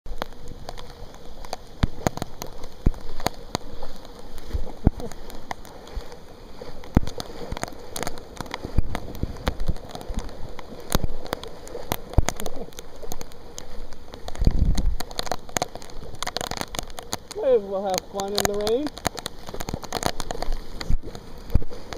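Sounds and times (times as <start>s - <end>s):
heavy rain falling: 0.1s - 21.9s
sharp raindrop hits: 0.1s - 21.9s.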